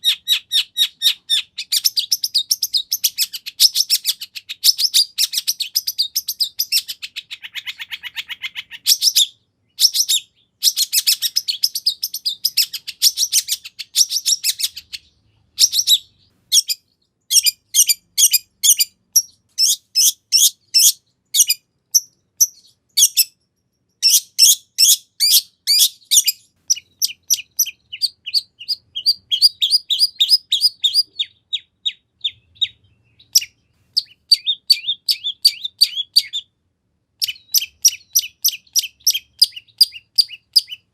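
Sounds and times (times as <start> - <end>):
bird singing fast varied song: 0.0 - 36.6, 37.2 - 40.9.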